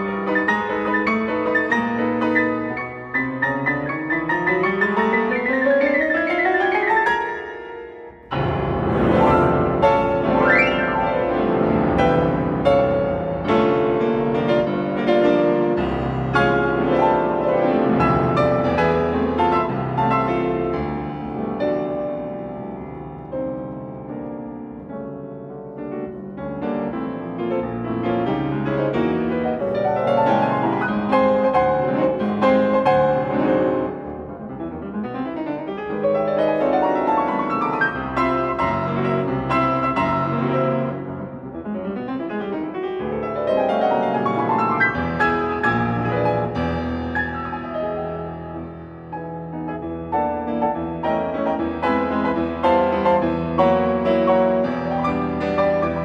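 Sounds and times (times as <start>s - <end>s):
classical piano playing: 0.0s - 56.0s.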